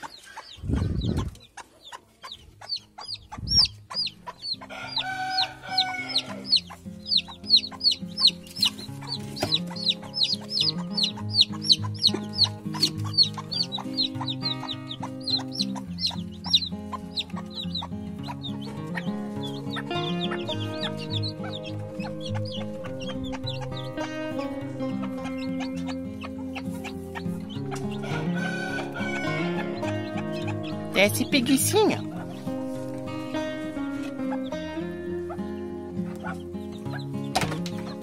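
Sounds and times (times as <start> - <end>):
chicks peeping: 0.0 - 38.0
background music with low notes: 2.3 - 38.0
hen calling: 2.6 - 37.1.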